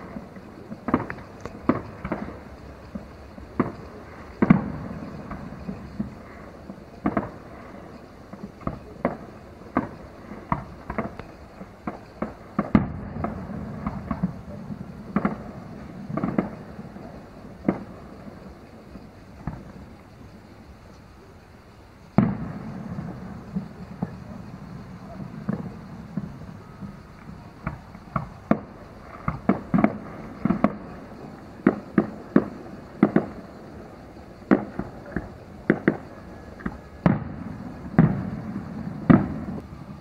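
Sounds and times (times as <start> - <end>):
distant firework bangs: 0.0 - 20.3, 22.1 - 40.0.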